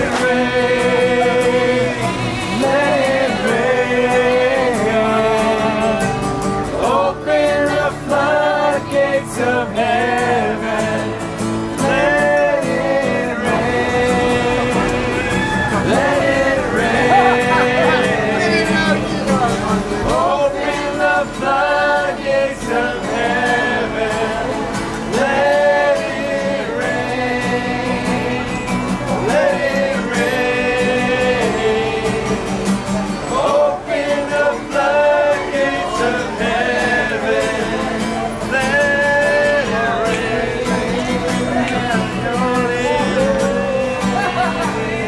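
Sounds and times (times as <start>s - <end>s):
acoustic guitar strummed: 0.0s - 45.0s
group singing worship song: 0.0s - 45.0s.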